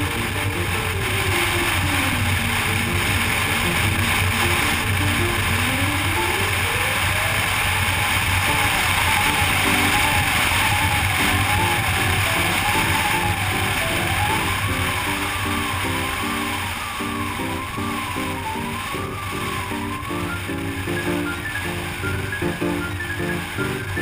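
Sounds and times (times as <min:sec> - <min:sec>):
melodic music: 0:00.0 - 0:24.0
motorcycle engine drone: 0:00.0 - 0:24.0
wind rush: 0:00.0 - 0:24.0.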